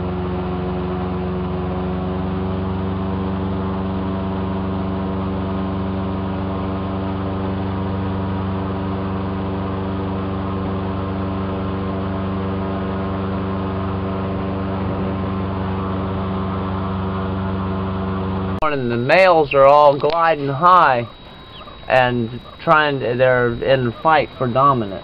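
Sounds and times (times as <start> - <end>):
airboat engine and propeller droning: 0.0 - 25.0.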